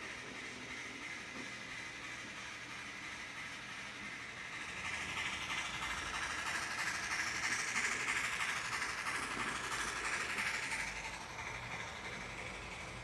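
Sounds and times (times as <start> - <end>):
model train whirring and rattling: 0.0 - 13.0.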